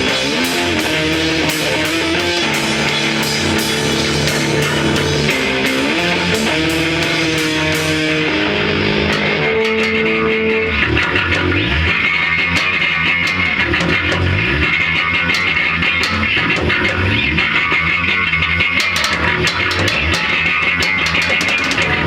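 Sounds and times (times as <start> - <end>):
bass guitar: 0.0 - 22.0
drums: 0.0 - 22.0
electric guitar: 0.0 - 22.0
rock band playing: 0.0 - 22.0.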